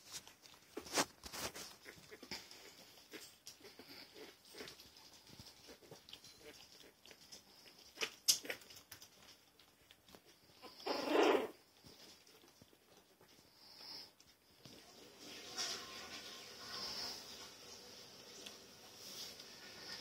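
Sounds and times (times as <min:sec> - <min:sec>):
dog licking puppies: 0:00.0 - 0:20.0.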